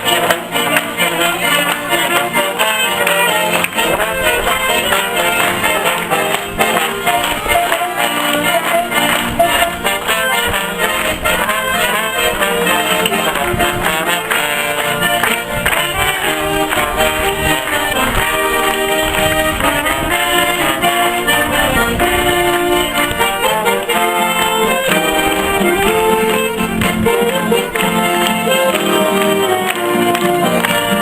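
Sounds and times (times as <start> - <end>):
live band playing melody: 0.0 - 31.0.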